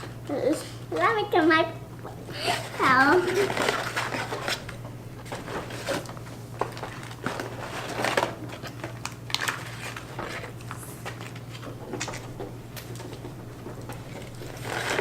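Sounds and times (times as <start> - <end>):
steady low hum: 0.0 - 15.0
paper packaging rustling: 2.4 - 15.0.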